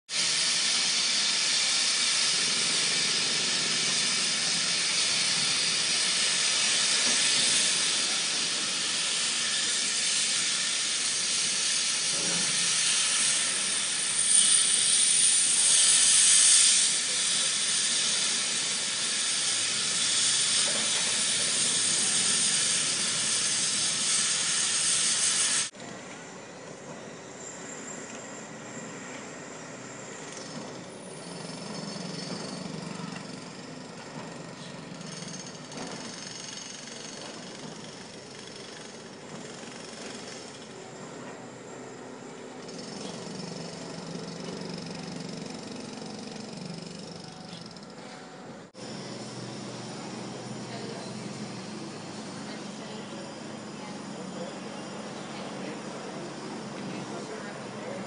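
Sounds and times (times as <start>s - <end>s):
machinery hissing loudly: 0.1s - 25.8s, 27.3s - 58.0s.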